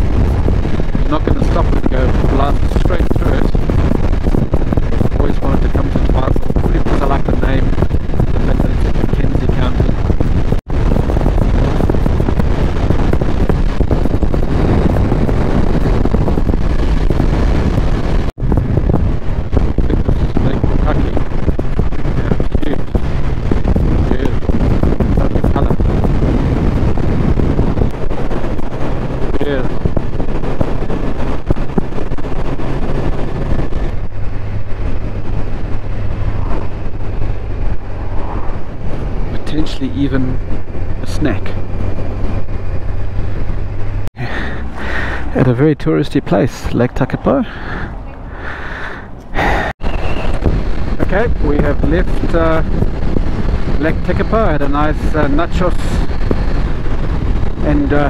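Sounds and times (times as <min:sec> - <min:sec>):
motorcycle engine and road noise: 0:00.0 - 0:58.0
wind buffeting microphone: 0:00.0 - 0:58.0.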